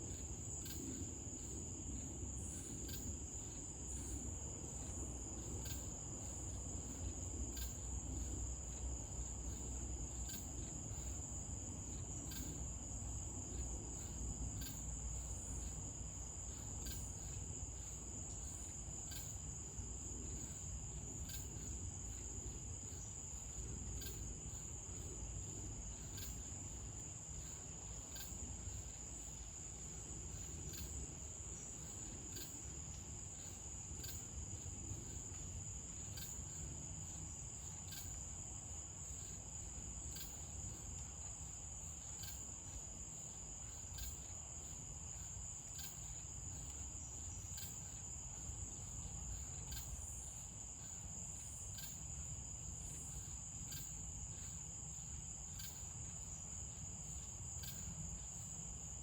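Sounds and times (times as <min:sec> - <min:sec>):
crickets trilling: 0:00.0 - 0:59.0
faint insect chirps: 0:00.0 - 0:59.0.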